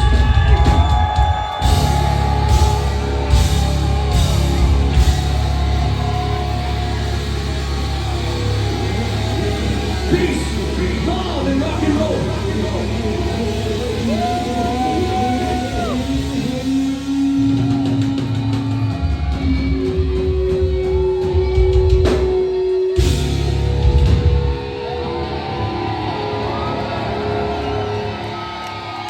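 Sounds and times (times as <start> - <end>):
bass and drums: 0.0 - 29.0
electric guitar bending notes: 1.6 - 29.0.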